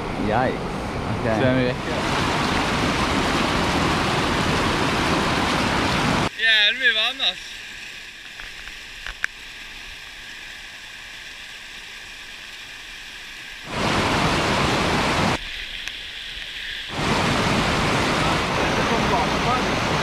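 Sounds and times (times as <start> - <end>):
rushing water: 1.1 - 20.0.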